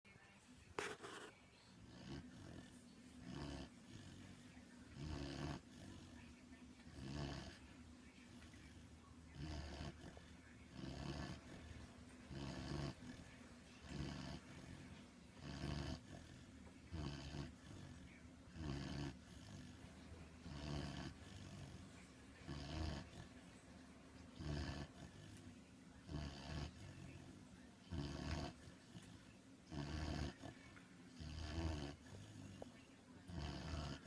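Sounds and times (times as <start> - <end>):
puppy snoring: 0.8 - 23.6, 24.2 - 34.0.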